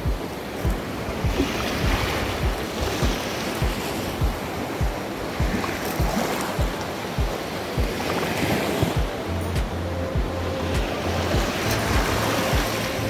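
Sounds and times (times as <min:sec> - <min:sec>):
background music with low beat: 0:00.0 - 0:13.0
surf washing on beach: 0:00.0 - 0:13.0.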